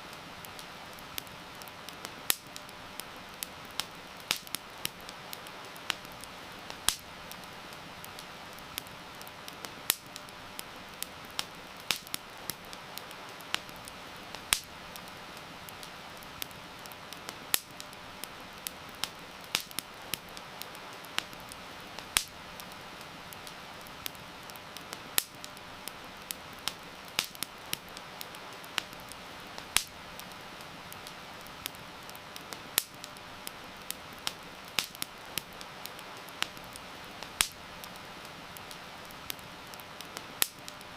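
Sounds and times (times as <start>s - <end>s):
heavy rain hiss: 0.0s - 40.9s
wood fire crackling: 0.0s - 40.9s.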